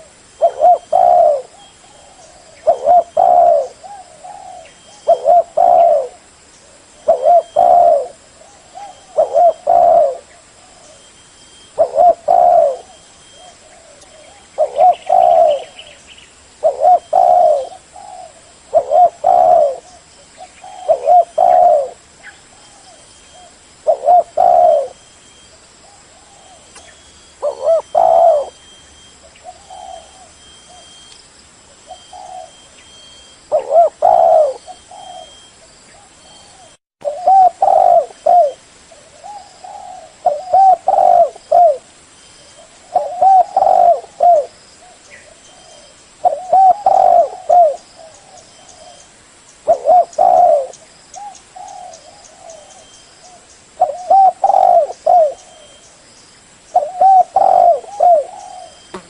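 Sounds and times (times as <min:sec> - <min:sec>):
dove cooing: 0:00.0 - 0:31.1, 0:31.9 - 0:55.9, 0:56.7 - 0:59.0.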